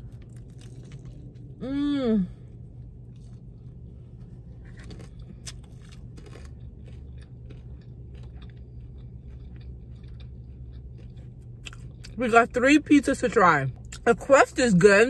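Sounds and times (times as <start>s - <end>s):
chewing pizza: 0.0s - 14.6s
low steady rumble: 0.0s - 15.0s.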